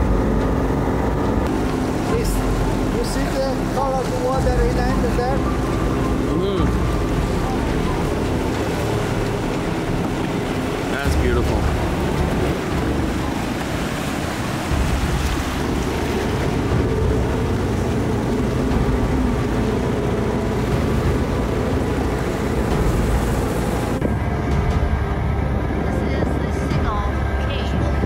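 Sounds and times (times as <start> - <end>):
motorboat engine humming: 0.0 - 28.0
water rushing along hull: 0.0 - 28.0
wind on microphone: 5.5 - 28.0.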